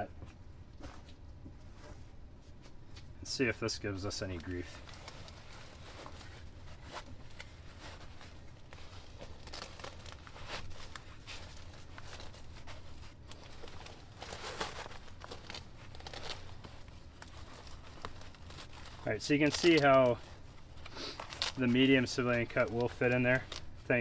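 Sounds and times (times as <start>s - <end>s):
nylon fabric rustling and scraping: 4.0s - 24.0s.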